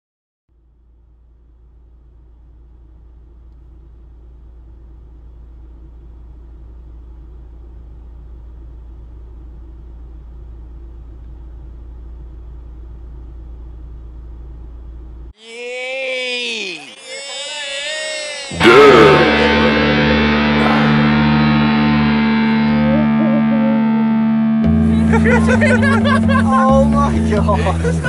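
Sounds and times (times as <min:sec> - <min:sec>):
car engine idling: 0:00.5 - 0:15.4, 0:18.6 - 0:28.0.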